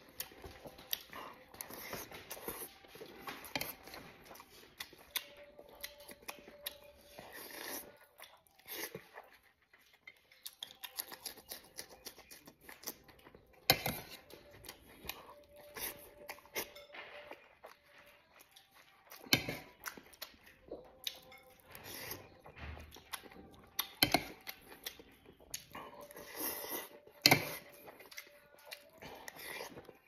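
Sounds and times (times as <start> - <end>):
man chewing and smacking: 0.0 - 30.0.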